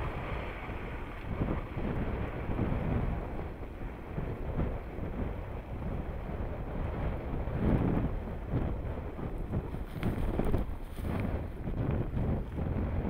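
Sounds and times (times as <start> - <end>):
car engine low rumble: 0.0 - 13.0
wind buffeting microphone: 0.0 - 13.0.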